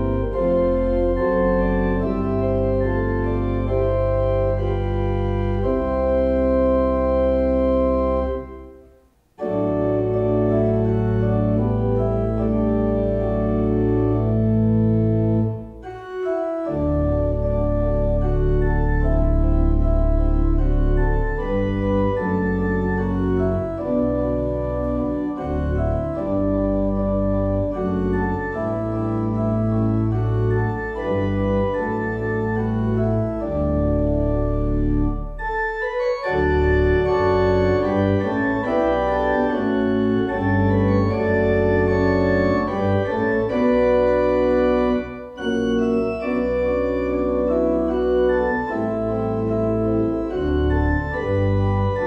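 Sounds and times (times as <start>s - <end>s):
organ playing slow chords: 0.0s - 52.0s.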